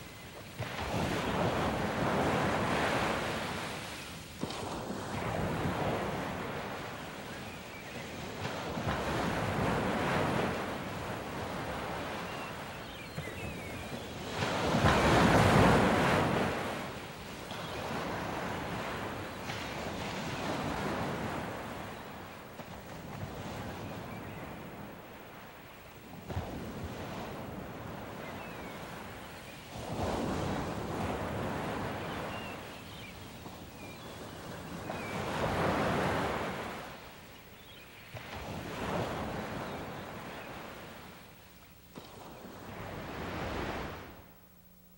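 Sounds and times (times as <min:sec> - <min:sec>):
ocean surf breaking on beach: 0:00.0 - 0:41.4, 0:42.0 - 0:44.3.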